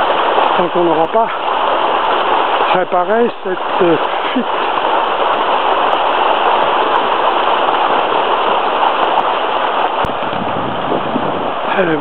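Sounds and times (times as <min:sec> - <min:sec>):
water rushing down ditch: 0:00.0 - 0:12.0.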